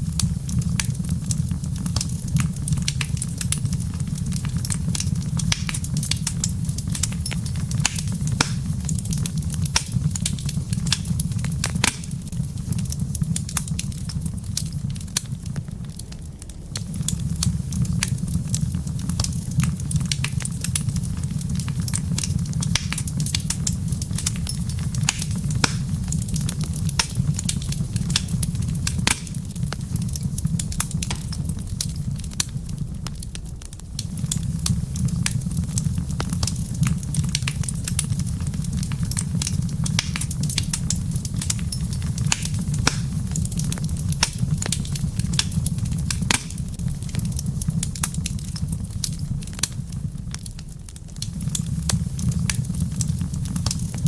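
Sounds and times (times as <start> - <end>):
low rumble of burning fire: 0.0 - 54.0
wood fire crackling: 0.0 - 54.0
sharp pops and snaps: 0.2 - 54.0.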